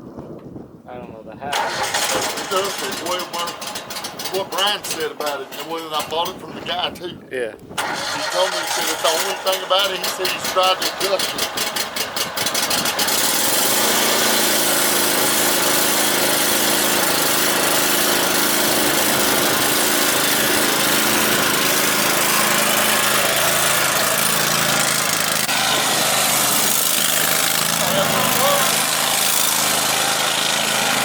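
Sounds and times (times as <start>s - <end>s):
small lawn mower engine running: 1.5s - 6.9s, 7.8s - 31.0s.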